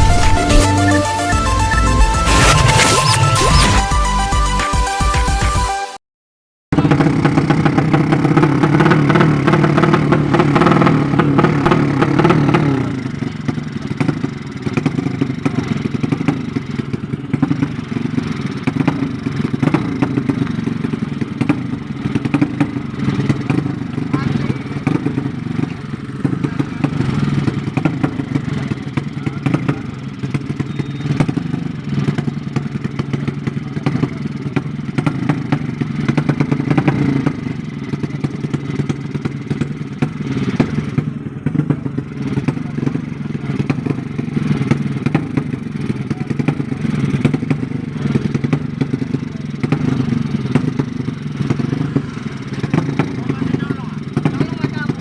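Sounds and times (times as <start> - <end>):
motorcycle engine clattering: 6.7 - 55.0.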